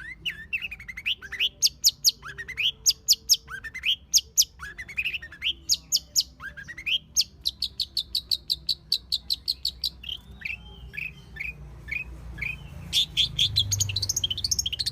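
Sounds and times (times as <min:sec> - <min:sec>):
shrike singing: 0:00.0 - 0:14.9.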